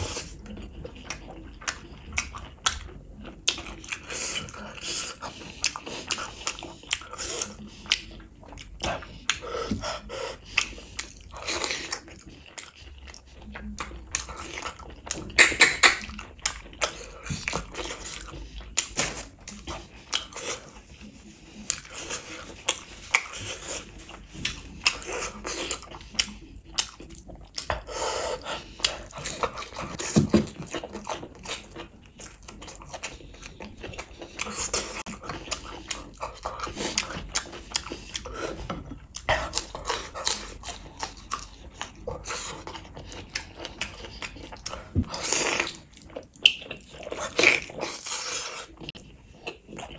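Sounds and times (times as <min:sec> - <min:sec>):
wet chewing: 0:00.0 - 0:49.9.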